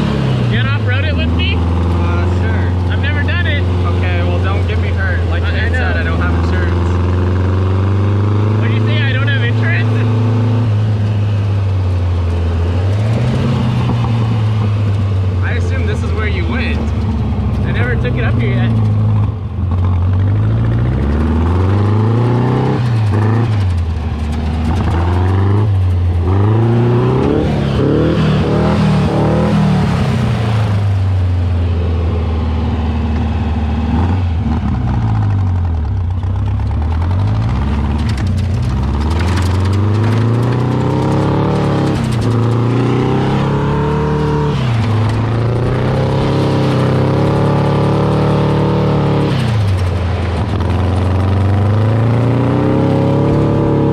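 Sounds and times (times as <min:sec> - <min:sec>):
vehicle engine accelerating: 0:00.0 - 0:53.9.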